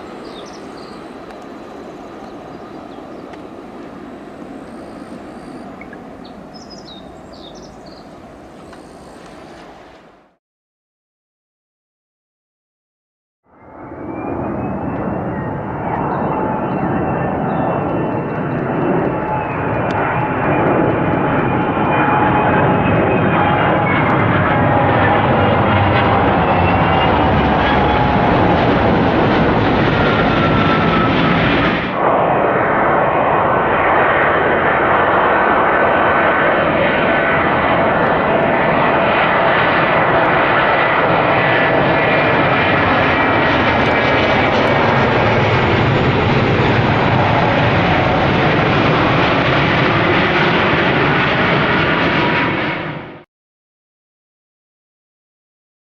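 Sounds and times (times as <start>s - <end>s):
jet engines running: 0.0s - 10.4s, 13.9s - 53.2s.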